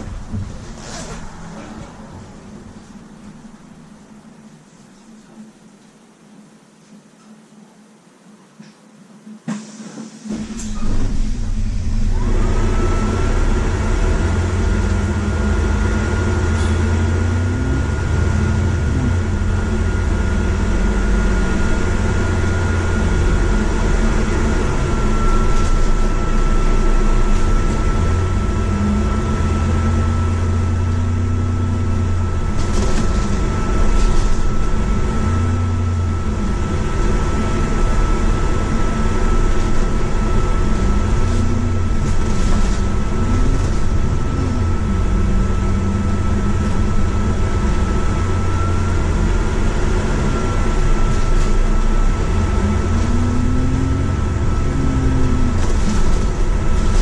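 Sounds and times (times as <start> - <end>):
bus engine with gear changes: 0.0 - 6.0, 8.6 - 57.0
steady high whine: 0.0 - 57.0.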